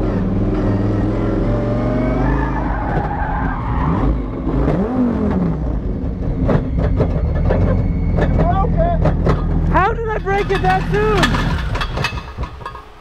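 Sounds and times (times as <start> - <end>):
car engine revving: 0.0 - 12.8
tyres skidding: 0.0 - 13.0.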